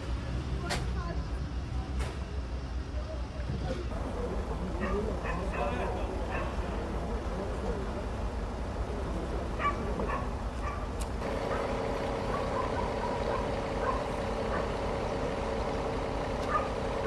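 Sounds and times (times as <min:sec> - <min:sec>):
vehicle engines running: 0:00.0 - 0:17.0.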